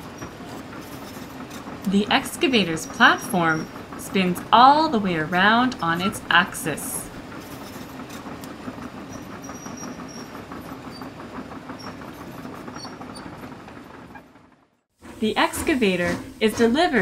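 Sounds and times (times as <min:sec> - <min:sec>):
excavator diesel engine clattering: 0:00.0 - 0:17.0.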